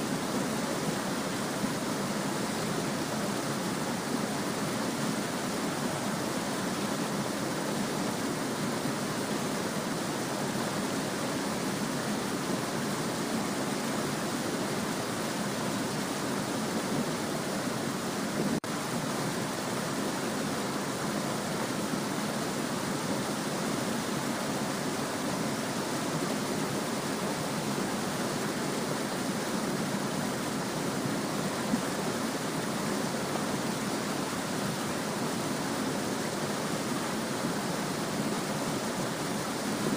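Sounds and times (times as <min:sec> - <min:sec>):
small stream babbling: 0:00.0 - 0:39.9.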